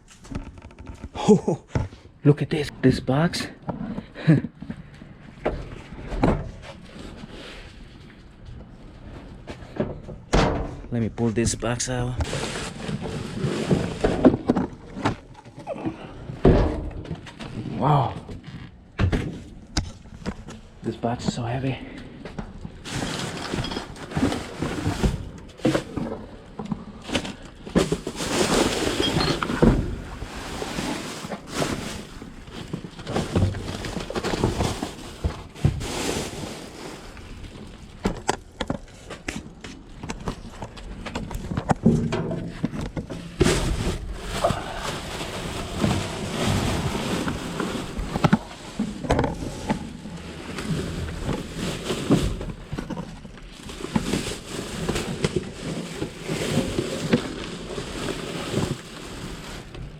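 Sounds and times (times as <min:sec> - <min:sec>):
rustling and scraping: 0:03.4 - 0:59.9.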